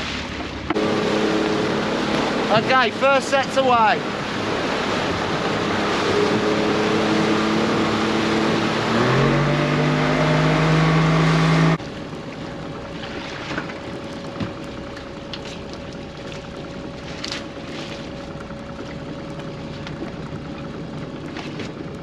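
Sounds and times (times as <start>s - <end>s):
outboard motor running: 0.0s - 22.0s
water rushing past hull: 0.0s - 22.0s.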